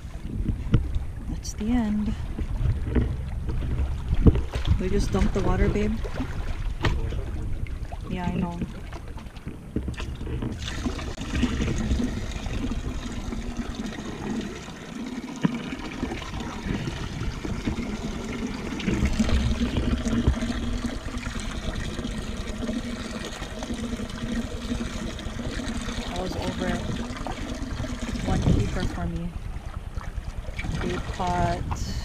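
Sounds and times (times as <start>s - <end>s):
wind rumble on microphone: 0.0s - 14.8s, 15.4s - 32.0s
water trickling and splashing: 0.0s - 32.0s.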